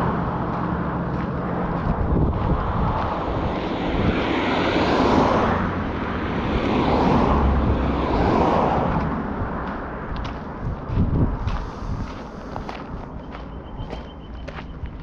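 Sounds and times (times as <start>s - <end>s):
vehicles passing close by: 0.0s - 15.0s.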